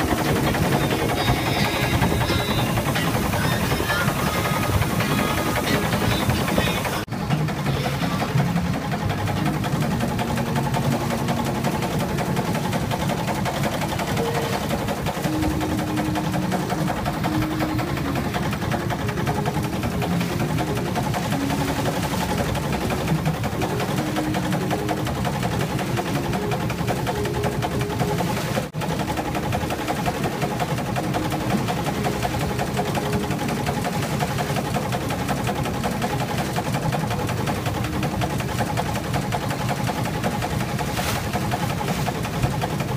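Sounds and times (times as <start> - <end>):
boat engine clattering: 0.0 - 42.9.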